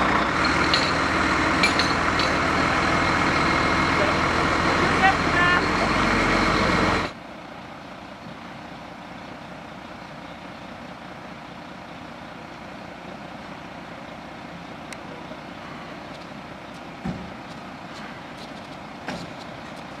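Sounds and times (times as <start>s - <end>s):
fire engine idling: 0.0s - 20.0s.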